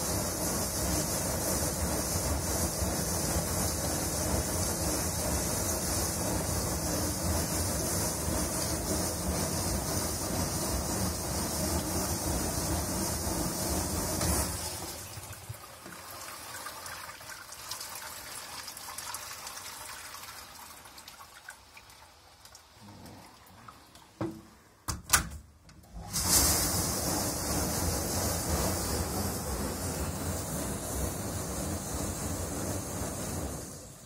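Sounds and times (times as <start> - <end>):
dishwasher spraying water: 0.0 - 19.7, 25.8 - 34.0.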